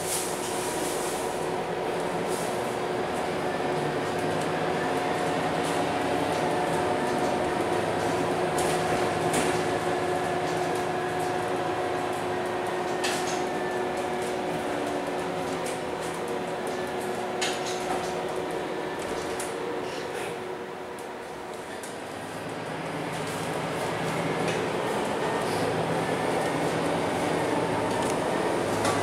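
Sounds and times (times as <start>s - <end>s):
bus cabin running noise: 0.0s - 29.0s.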